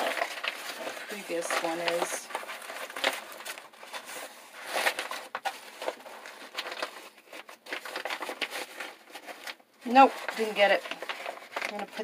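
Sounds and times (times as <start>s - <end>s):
nylon fabric rustling and crinkling: 0.0s - 12.0s.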